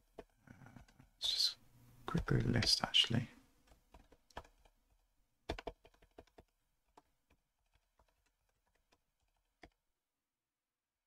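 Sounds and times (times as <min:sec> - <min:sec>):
faint keyboard typing: 0:00.0 - 0:01.4, 0:02.0 - 0:09.8.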